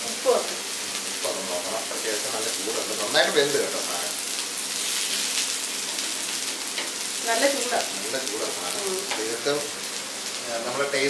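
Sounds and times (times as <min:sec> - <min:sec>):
eggplant sizzling in oil: 0:00.0 - 0:11.0.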